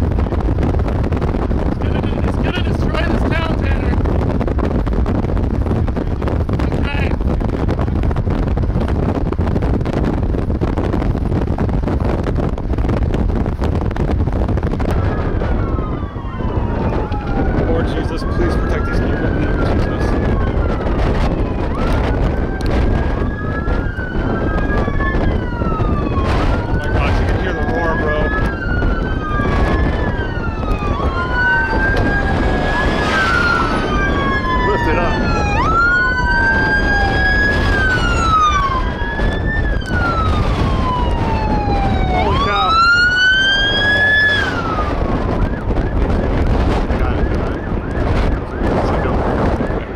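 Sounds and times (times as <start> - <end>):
emergency sirens wailing: 0.0 - 49.9
wind buffeting microphone: 0.0 - 49.9.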